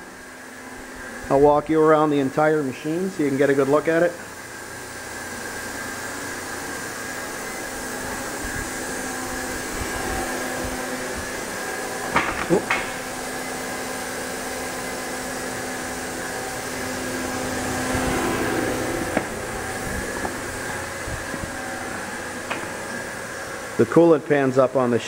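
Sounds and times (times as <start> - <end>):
machining center humming: 0.0 - 25.0.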